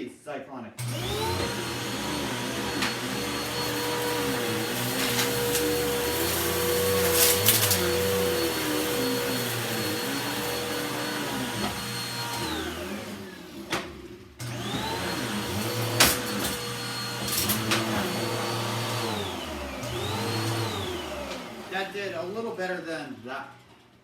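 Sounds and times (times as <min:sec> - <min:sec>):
vacuum cleaner motor whine: 0:00.8 - 0:22.4.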